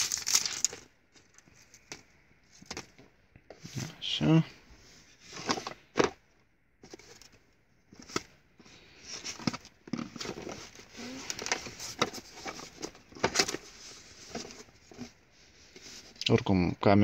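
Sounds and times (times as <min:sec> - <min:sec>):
cardboard box and plastic rustling: 0:00.0 - 0:04.0, 0:05.0 - 0:16.2.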